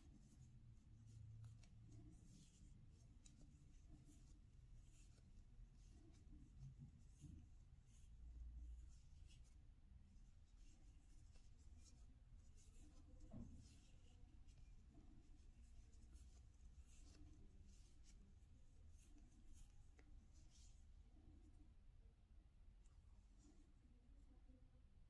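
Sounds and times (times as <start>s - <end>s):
yarn rustling and scratching: 0.0s - 20.9s.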